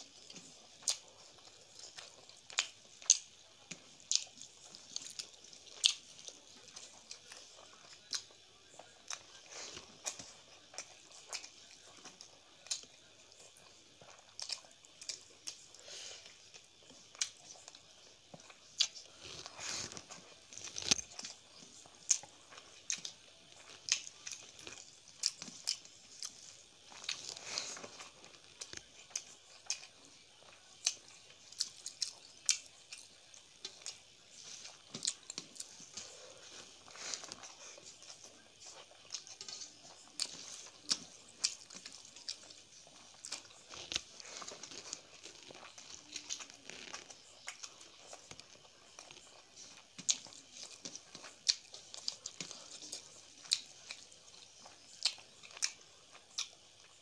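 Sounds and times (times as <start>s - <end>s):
chewing and wet mouth smacks: 0.2s - 15.7s, 16.5s - 57.0s.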